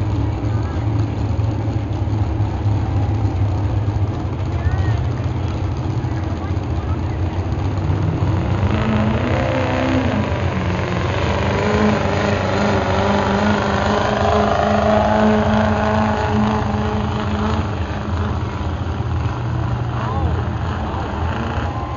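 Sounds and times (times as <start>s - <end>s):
truck engine at high revs: 0.0s - 21.9s.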